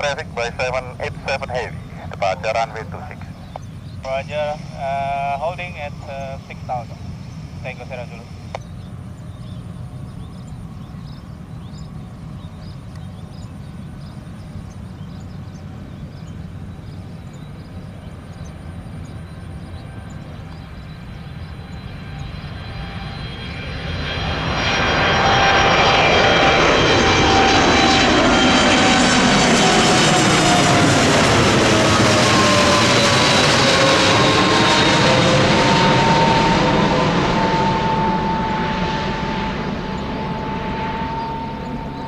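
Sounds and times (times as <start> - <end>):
jet airliner passing: 0.0 - 42.0.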